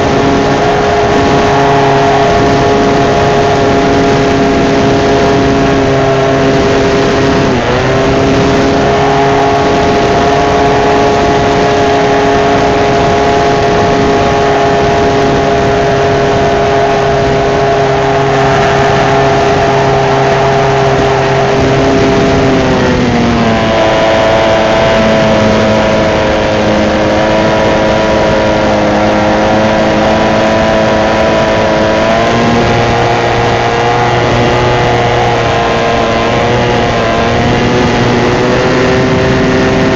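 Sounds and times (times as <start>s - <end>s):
constant rush of noise: 0.0s - 39.9s
model plane engine running: 0.0s - 39.9s.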